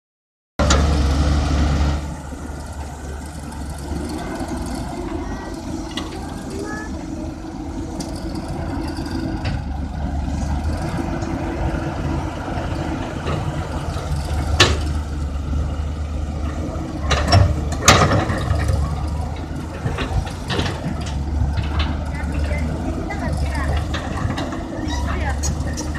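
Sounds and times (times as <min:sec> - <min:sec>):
excavator diesel engine running: 0:00.6 - 0:25.9.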